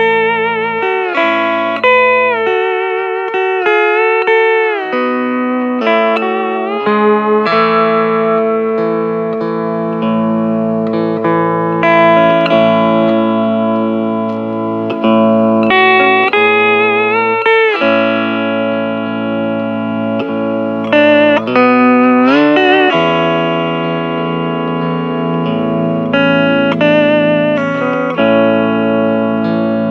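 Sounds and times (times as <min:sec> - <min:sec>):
steel guitar slow melody: 0:00.0 - 0:29.9.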